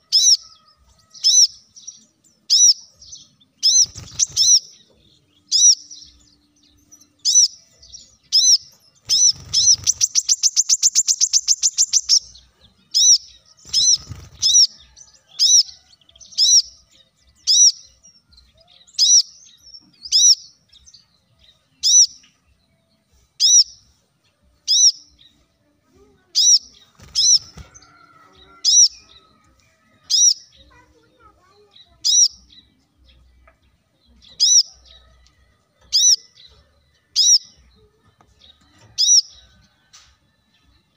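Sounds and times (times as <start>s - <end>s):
bird trill: 0.0s - 22.4s, 23.4s - 23.9s, 24.6s - 25.3s, 26.4s - 29.4s, 30.0s - 30.8s, 31.7s - 32.7s, 34.2s - 35.2s, 35.8s - 37.7s, 38.4s - 39.8s
bird chirping: 0.0s - 25.7s, 26.3s - 31.0s, 31.6s - 39.9s.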